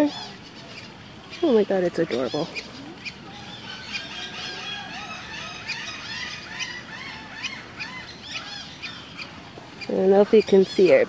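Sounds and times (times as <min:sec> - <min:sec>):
birds chirping and whistling: 0:00.0 - 0:11.0.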